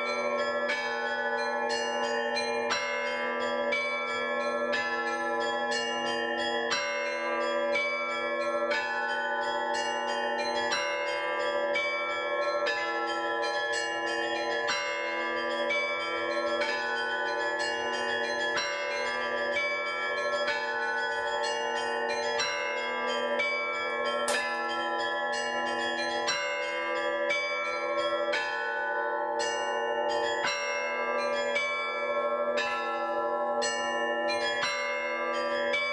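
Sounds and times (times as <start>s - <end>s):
church bells pealing: 0.0s - 35.9s.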